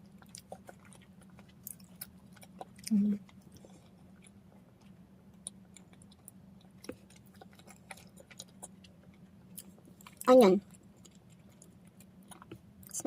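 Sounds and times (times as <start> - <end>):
low steady hum: 0.0 - 13.0
person chewing bread: 0.0 - 13.0.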